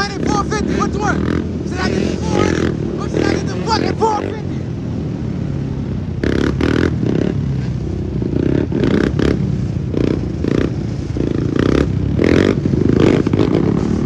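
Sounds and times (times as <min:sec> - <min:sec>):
atv and dirt bike engines revving: 0:00.0 - 0:14.0.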